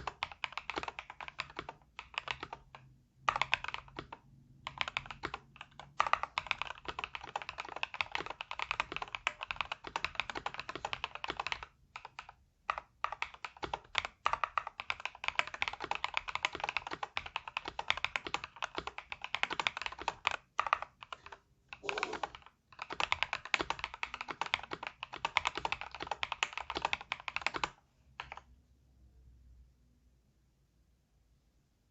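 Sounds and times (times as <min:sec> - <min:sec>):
mechanical keyboard typing: 0:00.0 - 0:28.5.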